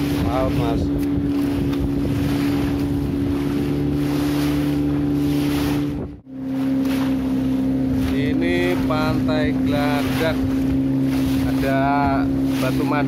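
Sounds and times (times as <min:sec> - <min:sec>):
engine running steadily: 0:00.0 - 0:13.0
wind on microphone: 0:00.0 - 0:13.0.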